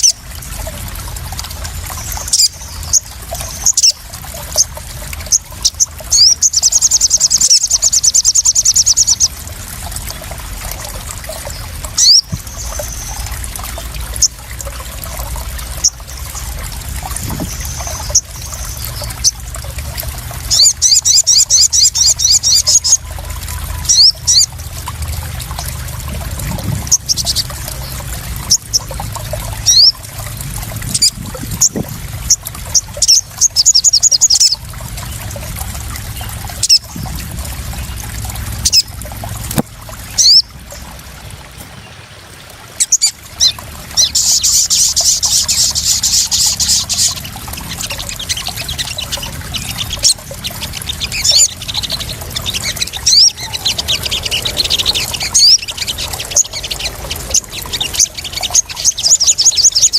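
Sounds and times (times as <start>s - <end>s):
trickling splashing water: 0.0s - 59.9s.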